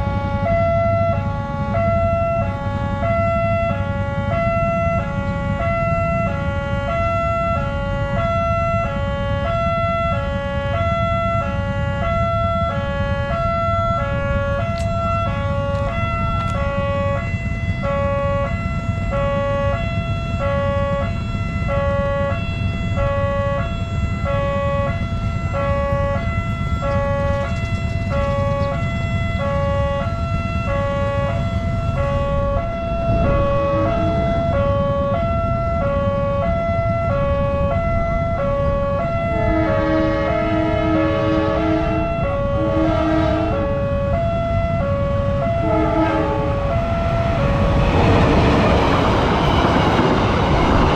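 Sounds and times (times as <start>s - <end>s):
level crossing two-tone siren: 0.0s - 50.9s.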